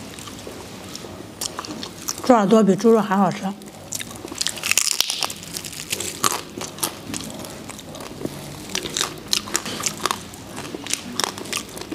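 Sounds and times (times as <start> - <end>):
crunchy chewing: 0.0 - 2.3, 3.6 - 11.9.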